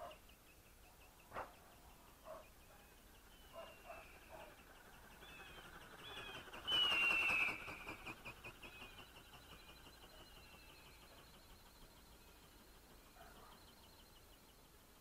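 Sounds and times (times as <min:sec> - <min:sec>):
bird-like chirps and calls: 0:00.0 - 0:15.0.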